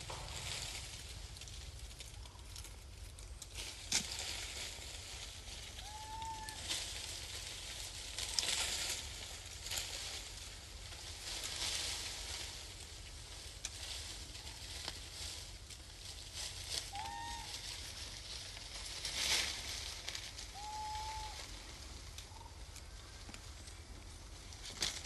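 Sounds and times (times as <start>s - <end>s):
rustling and crackling: 0.0s - 25.0s.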